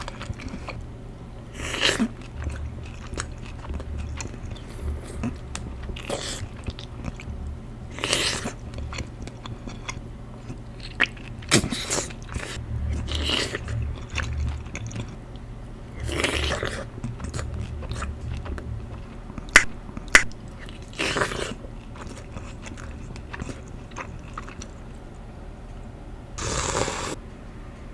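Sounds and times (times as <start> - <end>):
chewing and biting food: 0.0 - 25.3.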